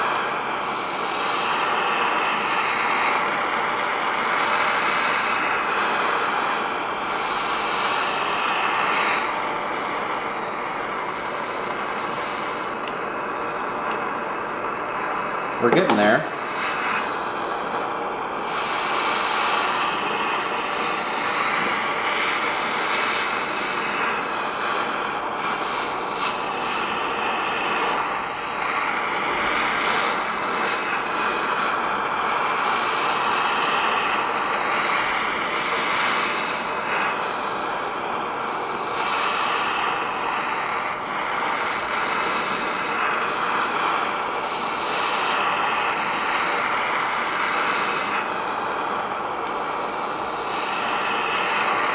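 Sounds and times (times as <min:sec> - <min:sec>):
heat gun blowing: 0:00.0 - 0:51.9.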